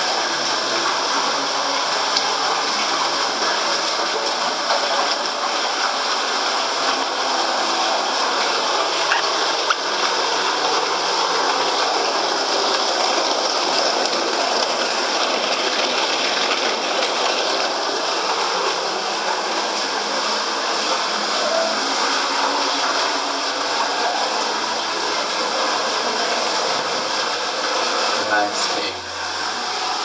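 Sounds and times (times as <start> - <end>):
waterfall rushing and splashing: 0.0 - 30.0.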